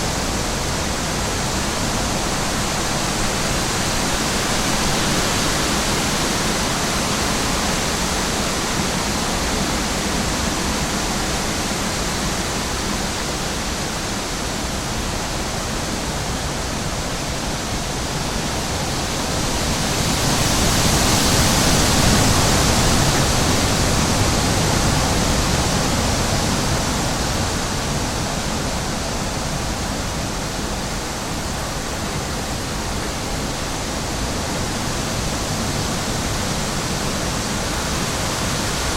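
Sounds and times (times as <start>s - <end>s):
rushing wind: 0.0s - 38.9s.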